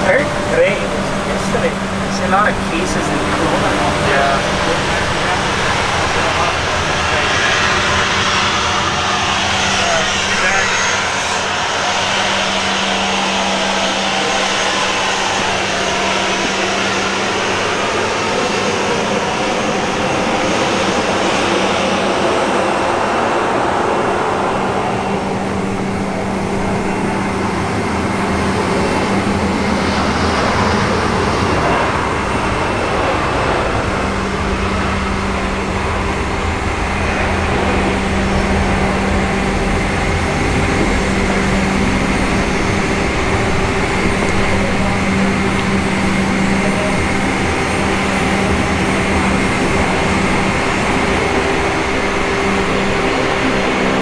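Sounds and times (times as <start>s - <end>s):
mechanical drone with low hum: 0.0s - 54.0s.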